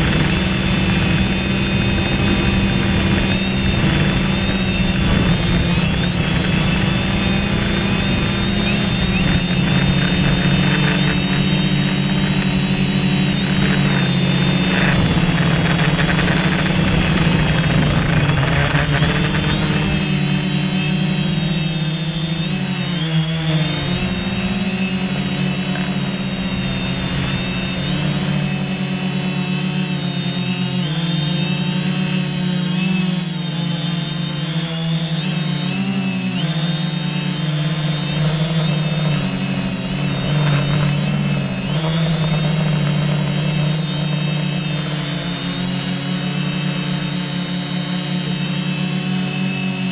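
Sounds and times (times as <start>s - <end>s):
drone propellers humming: 0.0s - 49.9s
thin high whine: 0.0s - 49.9s.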